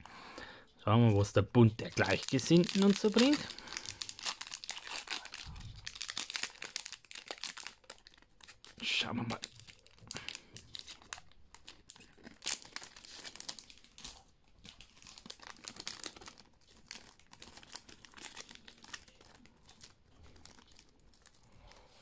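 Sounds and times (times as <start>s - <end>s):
foil pack crinkling and tearing: 1.8s - 22.0s.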